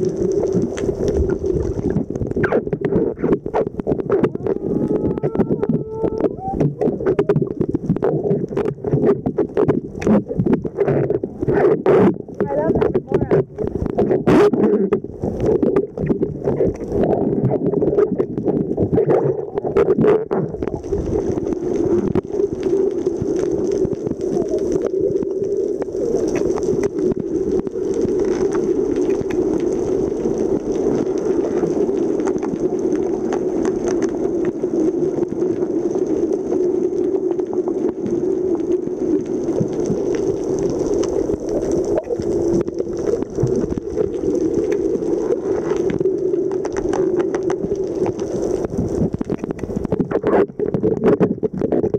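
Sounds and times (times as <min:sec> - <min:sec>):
underwater rumble and gurgle: 0:00.0 - 0:51.9.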